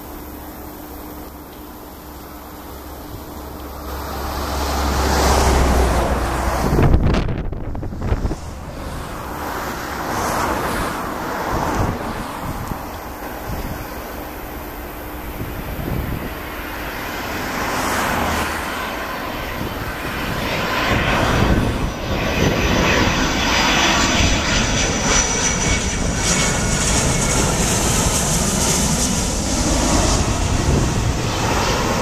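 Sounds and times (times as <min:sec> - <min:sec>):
high jet fan whine: 0:00.0 - 0:32.0
jet airliner rush: 0:03.0 - 0:32.0.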